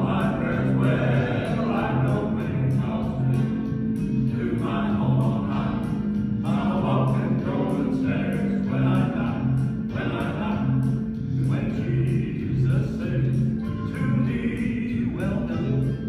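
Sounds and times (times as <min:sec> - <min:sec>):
bass line accompaniment: 0:00.0 - 0:16.0
men singing in harmony: 0:00.0 - 0:16.0.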